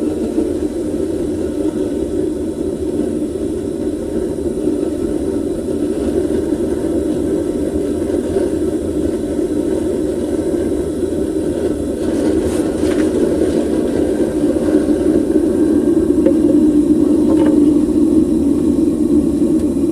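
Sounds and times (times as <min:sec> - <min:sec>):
furnace burner rushing: 0:00.0 - 0:19.9.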